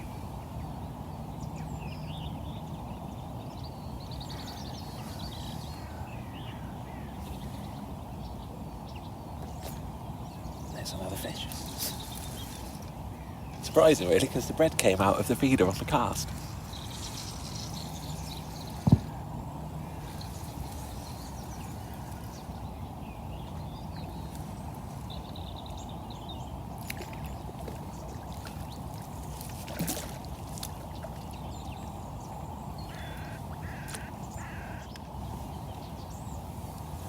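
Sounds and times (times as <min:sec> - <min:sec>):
flowing river water: 0:00.0 - 0:37.0.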